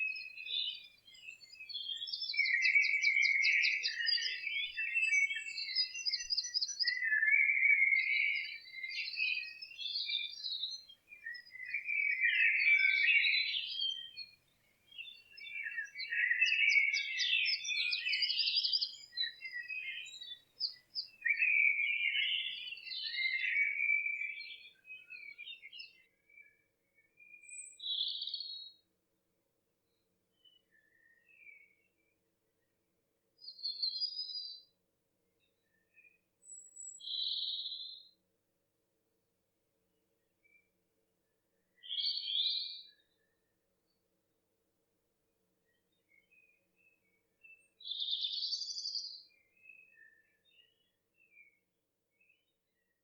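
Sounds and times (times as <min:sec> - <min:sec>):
songbirds singing: 0:00.0 - 0:28.8, 0:29.9 - 0:32.7, 0:33.4 - 0:34.8, 0:35.4 - 0:38.2, 0:41.6 - 0:44.0, 0:45.6 - 0:52.9.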